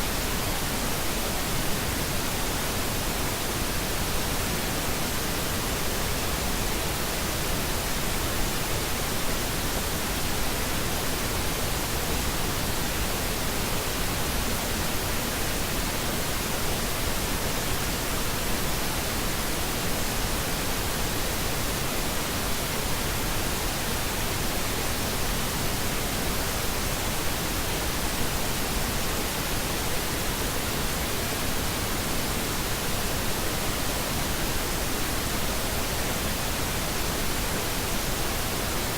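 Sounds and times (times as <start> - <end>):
steady pink noise hiss: 0.0 - 38.9.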